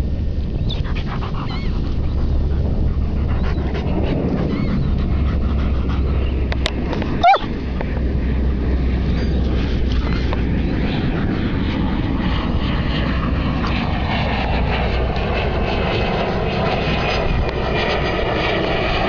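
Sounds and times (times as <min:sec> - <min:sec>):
aircraft engine drone: 0:00.0 - 0:19.0
wind rumble on microphone: 0:00.0 - 0:19.0.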